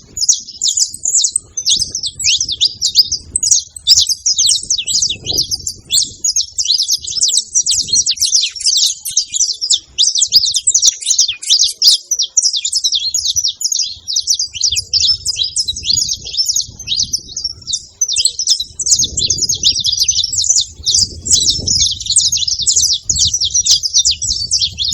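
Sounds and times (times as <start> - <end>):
finch chirping and singing: 0.0 - 24.9.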